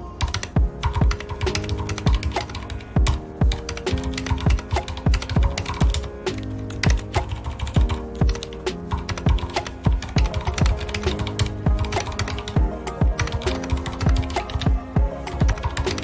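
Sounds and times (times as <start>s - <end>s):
background music with low beat: 0.0s - 16.0s
mechanical keyboard typing: 0.2s - 16.0s.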